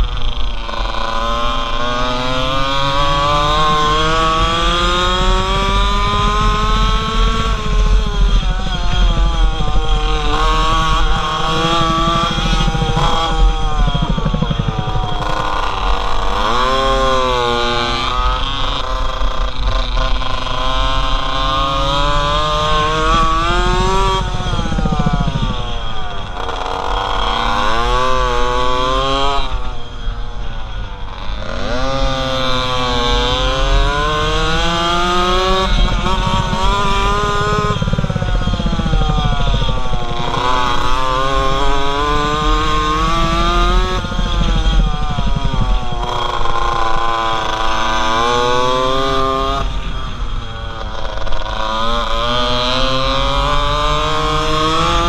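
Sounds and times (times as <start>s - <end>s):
two-stroke engine revving: 0.0s - 55.0s
wind rumble on microphone: 0.8s - 29.7s, 31.8s - 55.0s.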